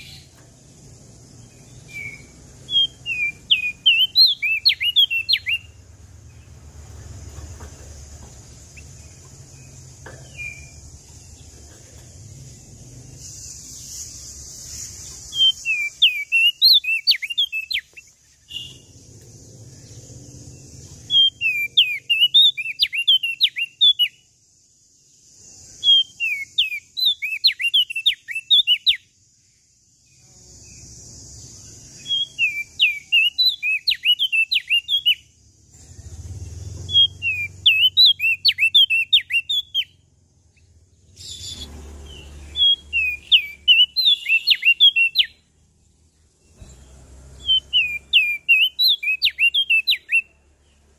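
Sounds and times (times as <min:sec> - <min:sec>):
bird whistling song: 0:00.0 - 0:00.5, 0:01.2 - 0:06.6, 0:08.6 - 0:19.1, 0:19.7 - 0:24.4, 0:25.1 - 0:29.2, 0:30.8 - 0:35.4, 0:36.1 - 0:45.5, 0:46.5 - 0:50.4.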